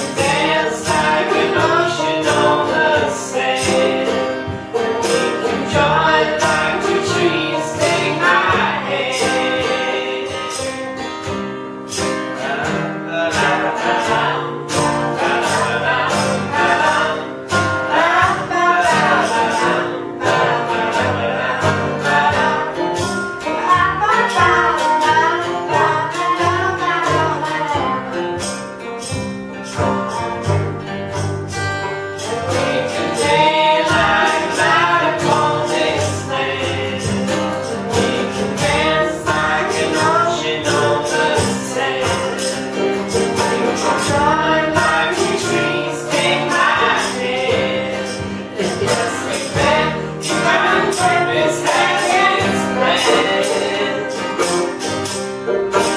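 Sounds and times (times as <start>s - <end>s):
people singing: 0.0s - 29.8s, 31.1s - 55.9s
acoustic guitar: 0.0s - 55.9s
banjo: 0.0s - 55.9s
upright bass: 0.0s - 55.9s.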